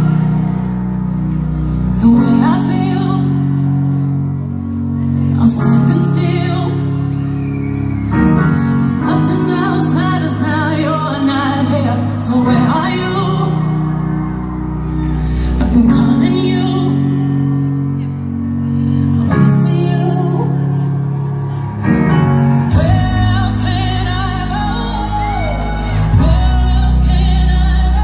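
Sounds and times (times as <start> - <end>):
song over loudspeakers: 0.0 - 28.0
strong bass: 0.0 - 28.0.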